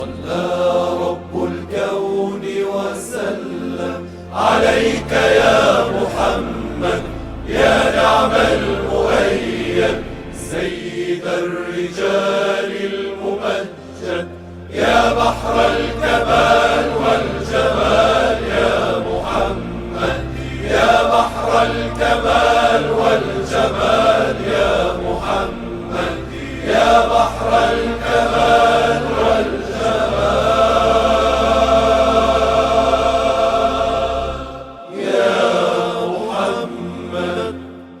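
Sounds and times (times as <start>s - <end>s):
steady low drone: 0.0s - 35.0s
voices chanting: 0.0s - 37.7s.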